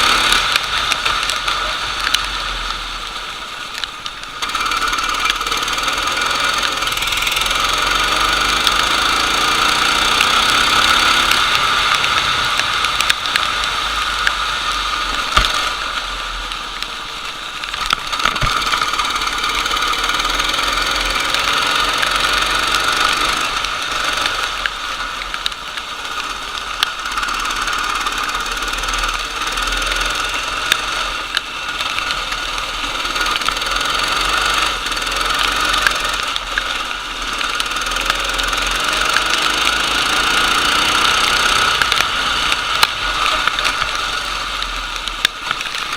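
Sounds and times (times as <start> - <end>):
go-kart engine running: 0.0 - 45.9.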